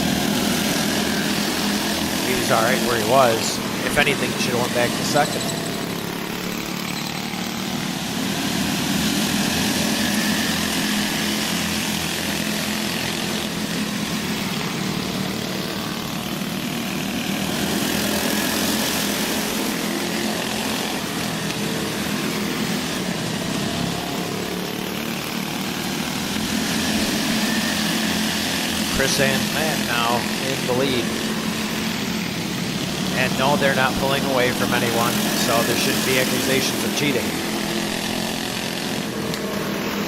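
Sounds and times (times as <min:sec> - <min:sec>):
go-kart engines droning: 0:00.0 - 0:40.0.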